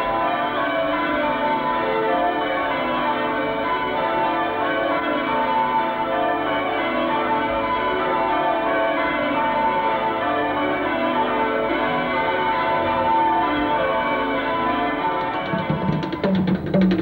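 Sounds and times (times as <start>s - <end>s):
church bells ringing: 0.0s - 16.6s.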